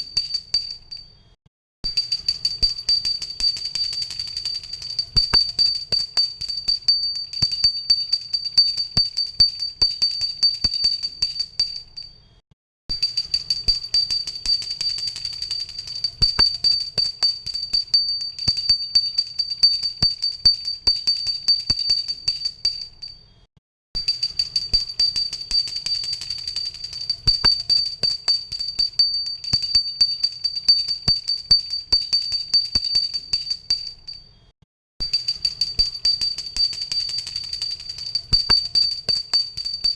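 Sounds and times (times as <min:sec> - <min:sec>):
hand bell rung rapidly: 0:00.0 - 0:01.0, 0:01.9 - 0:12.1, 0:13.0 - 0:23.2, 0:24.0 - 0:34.2, 0:35.0 - 0:39.9.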